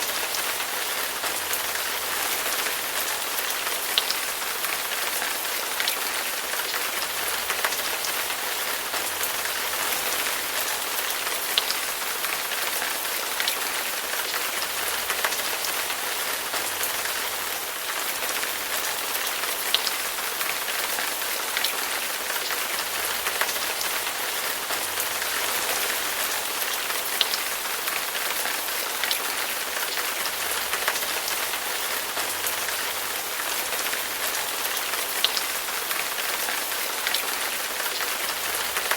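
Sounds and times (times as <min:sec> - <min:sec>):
raindrops striking close by: 0:00.0 - 0:38.9.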